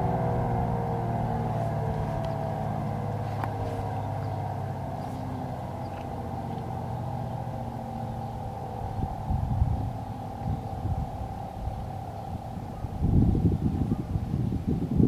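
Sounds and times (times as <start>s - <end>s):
warning siren steady tone: 0.0s - 14.7s.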